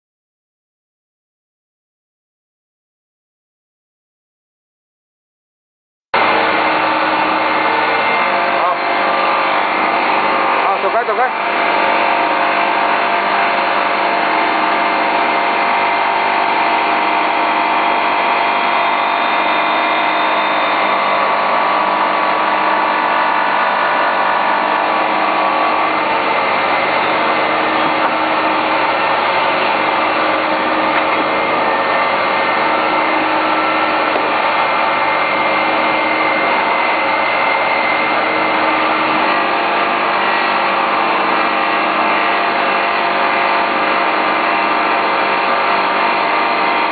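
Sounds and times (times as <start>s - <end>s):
polishing machine motor whir: 6.2s - 46.9s.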